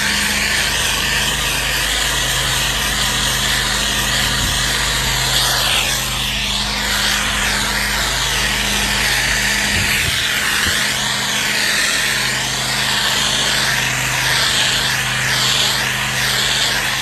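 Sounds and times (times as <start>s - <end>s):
pressure washer engine running: 0.0s - 17.0s
spray hissing: 0.0s - 17.0s.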